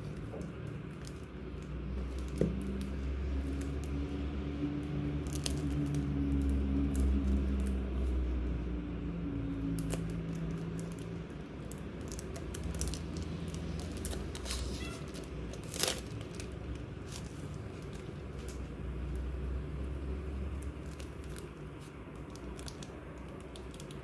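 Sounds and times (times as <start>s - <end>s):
stationery and packaging rustling: 0.0s - 8.5s, 9.6s - 24.0s.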